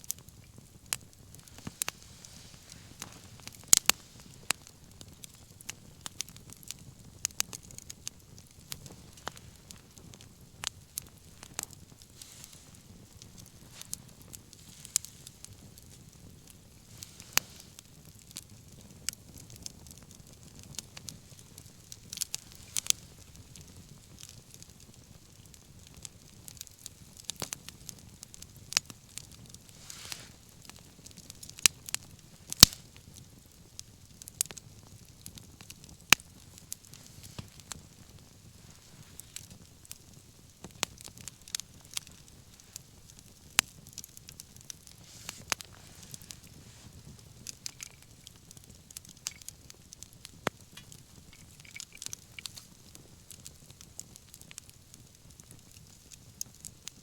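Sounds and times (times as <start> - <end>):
soft hiss: 0.0 - 56.5
bonfire crackling and popping: 0.0 - 57.0
low rumble of flame: 0.0 - 57.0.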